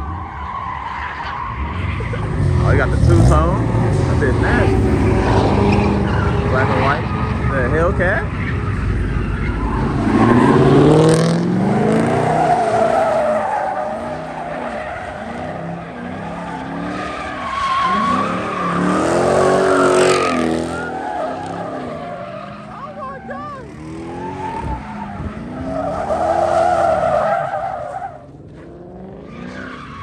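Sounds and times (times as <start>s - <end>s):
tyres screeching: 0.1s - 28.2s
car engine revving: 1.1s - 30.0s.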